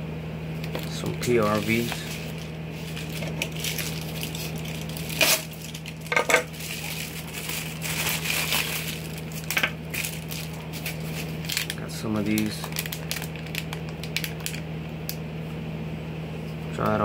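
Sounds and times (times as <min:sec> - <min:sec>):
steady low hum: 0:00.0 - 0:17.0
plastic packaging rustling: 0:00.6 - 0:14.7.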